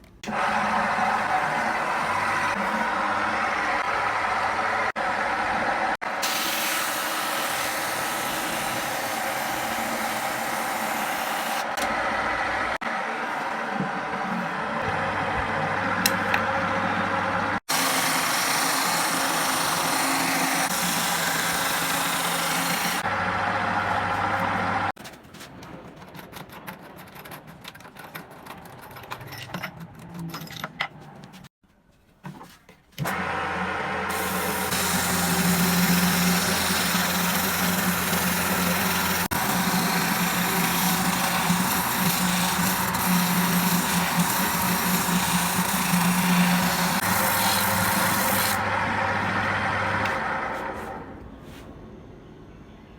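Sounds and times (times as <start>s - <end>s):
motor humming: 0.2s - 24.9s, 33.0s - 51.1s.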